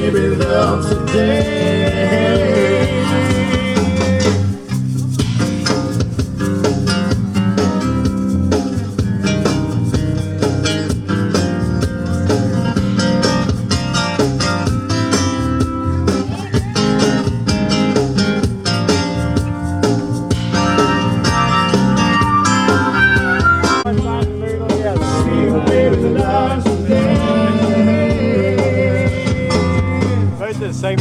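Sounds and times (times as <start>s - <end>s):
guitar strummed and plucked: 0.0s - 31.0s.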